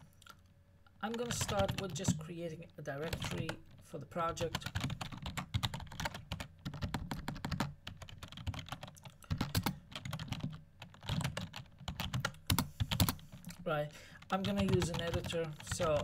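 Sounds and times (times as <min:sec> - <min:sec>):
typing on computer keyboard: 0:01.1 - 0:02.2, 0:03.0 - 0:13.5, 0:14.2 - 0:16.0.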